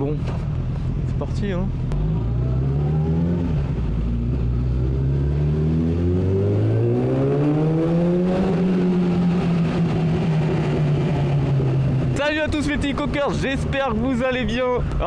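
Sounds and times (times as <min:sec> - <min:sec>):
motorcycle engine accelerating: 0:01.7 - 0:14.1.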